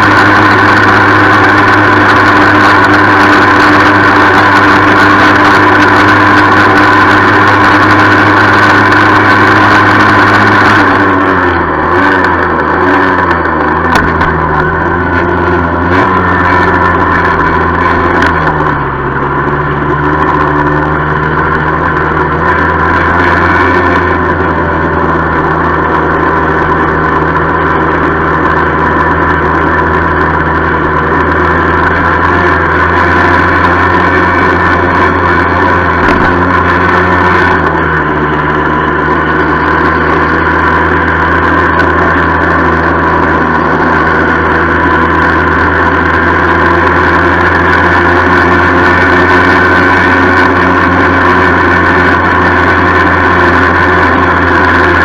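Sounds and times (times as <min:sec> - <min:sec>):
bike rattling: 0:00.0 - 0:55.0
moped engine running: 0:00.0 - 0:55.0.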